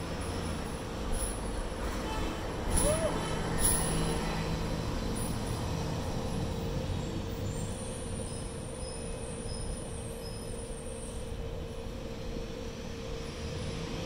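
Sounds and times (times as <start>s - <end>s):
bus passing: 0.0s - 14.0s.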